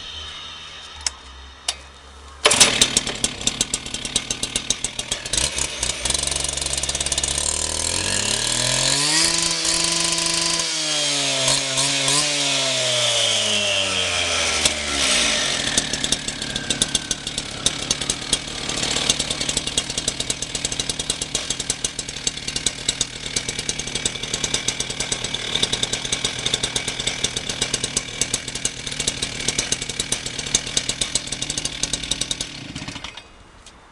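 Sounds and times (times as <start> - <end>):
cut-off saw engine revving: 0.0 - 33.3.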